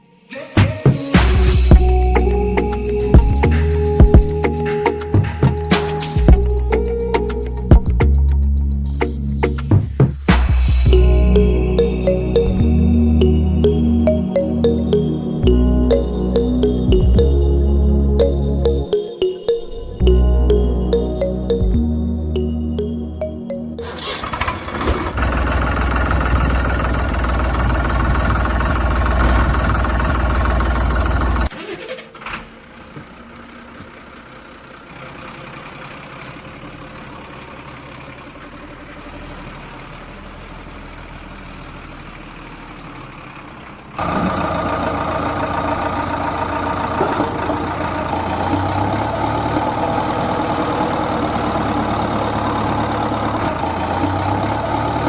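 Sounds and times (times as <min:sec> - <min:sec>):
vehicle engine running: 0:01.3 - 0:17.4, 0:20.1 - 0:31.5, 0:32.5 - 0:55.0.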